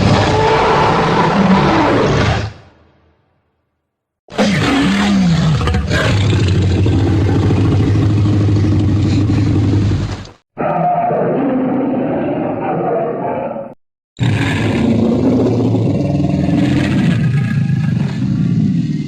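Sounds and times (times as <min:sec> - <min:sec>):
dinosaur roar: 0:00.0 - 0:02.6, 0:04.3 - 0:19.0.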